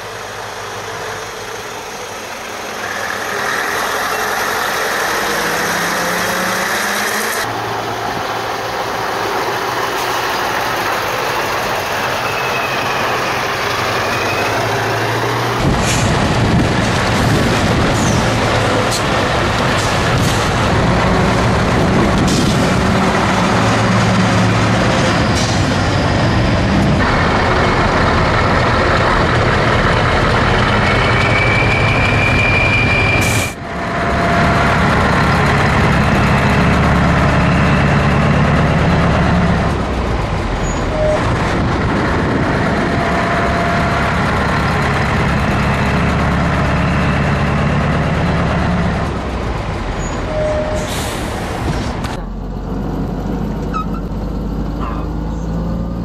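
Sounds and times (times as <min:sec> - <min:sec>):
trucks driving past: 0:00.0 - 0:56.0.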